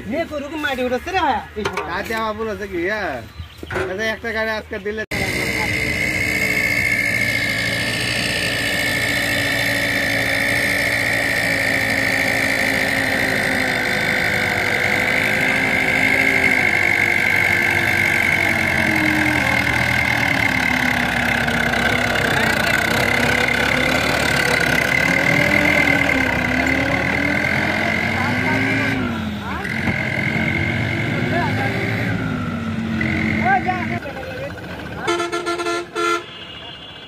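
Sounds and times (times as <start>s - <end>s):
tractor diesel engine under load: 1.2s - 37.0s.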